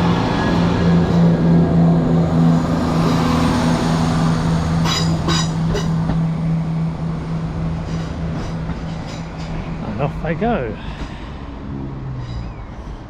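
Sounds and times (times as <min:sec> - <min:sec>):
diesel train engine humming: 0:00.0 - 0:13.0.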